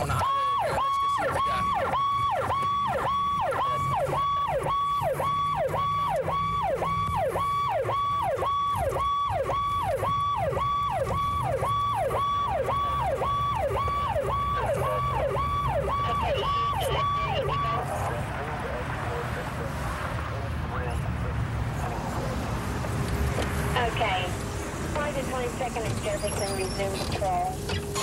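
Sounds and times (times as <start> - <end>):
car engine running: 0.0 - 28.0
police siren wailing: 0.0 - 28.0.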